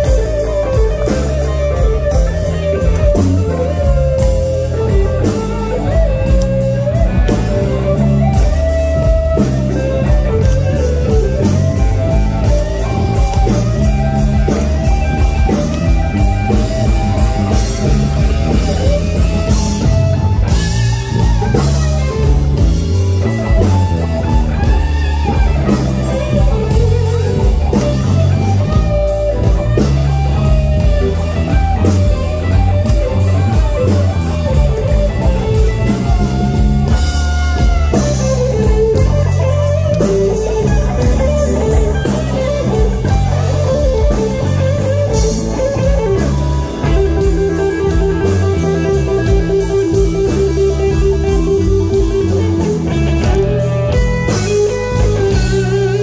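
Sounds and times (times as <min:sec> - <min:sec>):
bass and drums: 0:00.0 - 0:56.0
electric guitar solo: 0:00.0 - 0:56.0.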